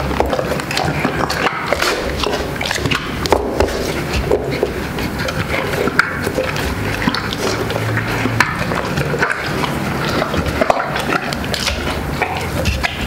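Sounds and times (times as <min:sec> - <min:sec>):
dog chewing and crunching bones: 0:00.0 - 0:13.0.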